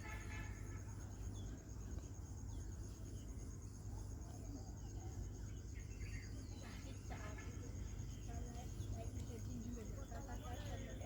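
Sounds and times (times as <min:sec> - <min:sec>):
faint chirps: 0:00.0 - 0:11.0.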